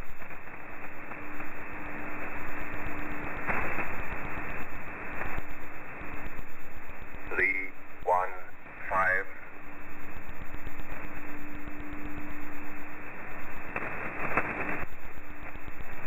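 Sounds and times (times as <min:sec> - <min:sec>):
low steady tone: 0:00.0 - 0:16.0
radio band hiss: 0:00.0 - 0:16.0.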